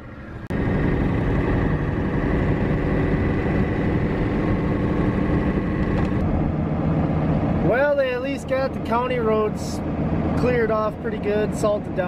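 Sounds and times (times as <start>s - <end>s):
truck engine from inside cab: 0.0s - 12.0s
tyres on snowy road: 0.0s - 12.0s.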